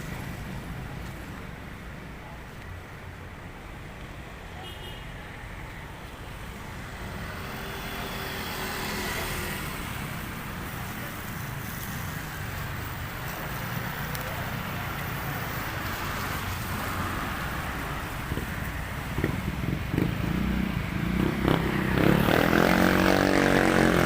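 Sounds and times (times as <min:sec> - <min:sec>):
road noise from passing vehicles: 0:00.0 - 0:24.0.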